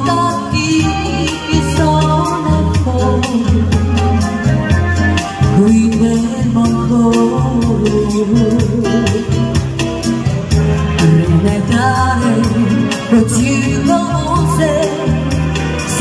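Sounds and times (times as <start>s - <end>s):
backing music with bass and beat: 0.0s - 16.0s
woman singing into a microphone: 0.0s - 16.0s.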